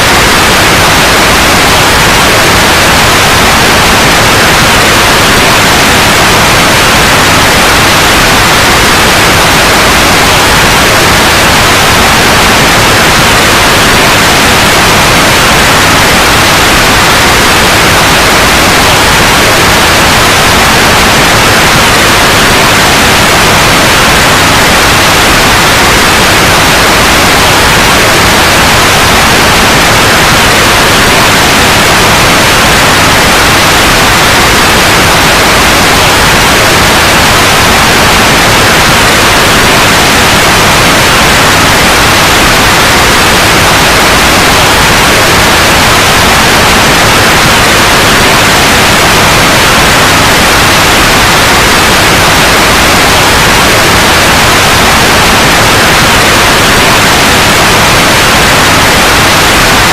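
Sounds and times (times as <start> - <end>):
loud white noise: 0.0 - 59.9.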